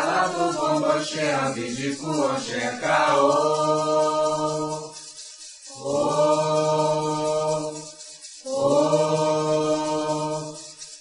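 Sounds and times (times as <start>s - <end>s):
voices chanting long held notes: 0.0s - 11.0s.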